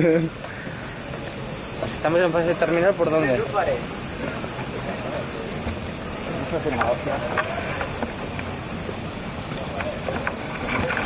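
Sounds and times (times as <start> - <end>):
cicadas chorus: 0.0 - 11.0.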